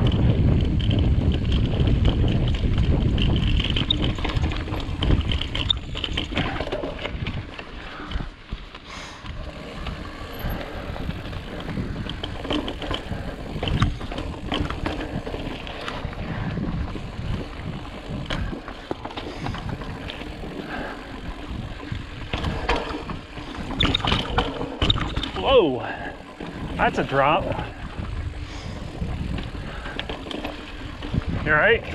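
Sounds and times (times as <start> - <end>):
bike knocking and rattling: 0.0 - 31.9
bike tyres rolling over rock: 0.0 - 31.9
wind noise on microphone: 0.0 - 31.9.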